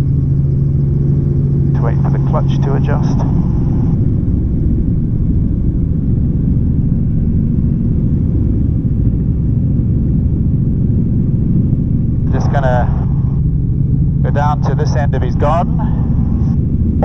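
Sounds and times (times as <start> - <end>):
helicopter engine rumbling: 0.0 - 17.0.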